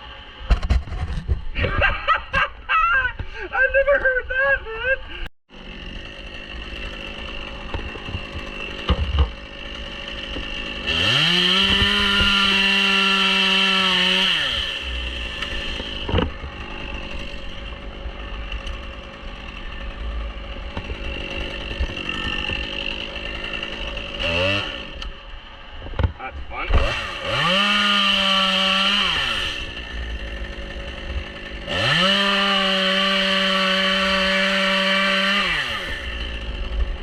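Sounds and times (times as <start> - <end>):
chainsaw engine revving: 5.5 - 25.6, 26.6 - 37.0.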